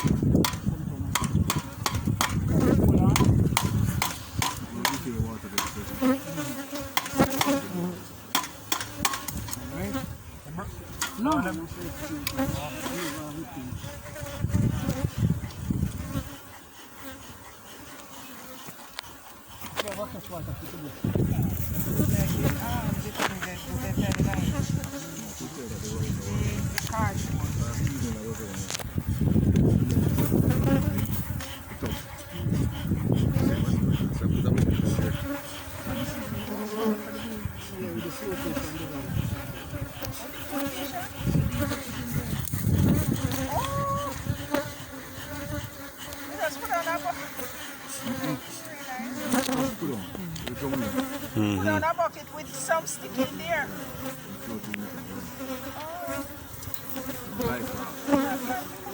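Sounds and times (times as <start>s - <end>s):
honeybees buzzing: 0.0s - 58.9s.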